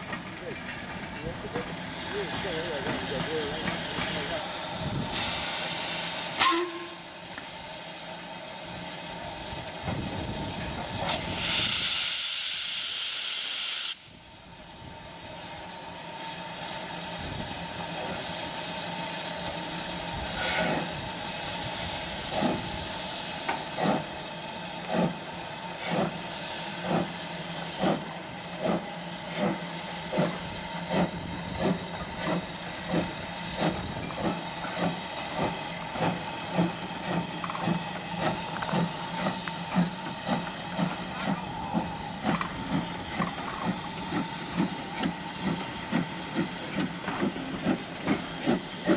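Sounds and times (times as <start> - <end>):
loud steam hiss: 0.0 - 48.9
steam locomotive exhaust chuffs: 0.0 - 48.9.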